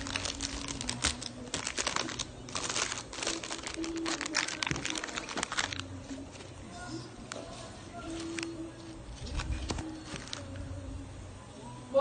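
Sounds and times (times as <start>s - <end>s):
plastic packaging crinkling: 0.0s - 6.6s, 7.3s - 10.6s.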